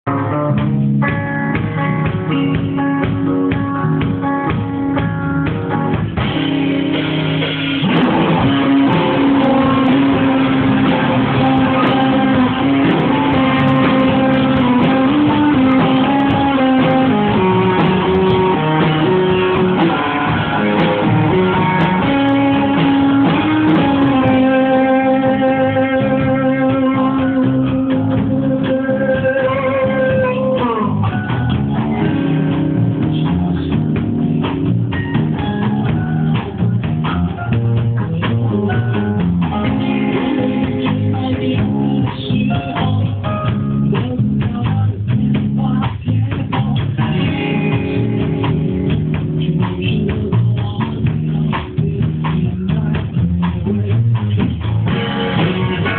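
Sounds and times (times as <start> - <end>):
rock band playing: 0.0 - 55.9.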